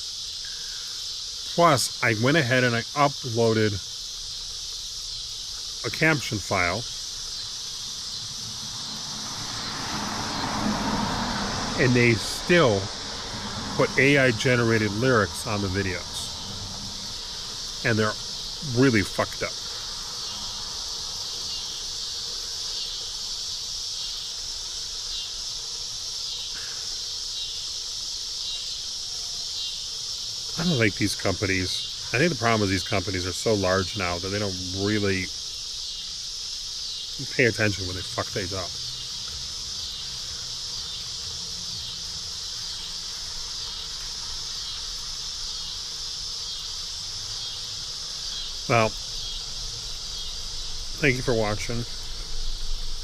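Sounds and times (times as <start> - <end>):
cicadas buzzing: 0.0 - 53.0.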